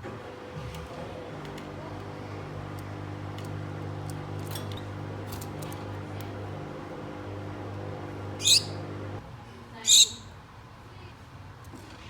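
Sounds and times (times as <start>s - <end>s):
low mechanical hum: 0.0s - 11.1s.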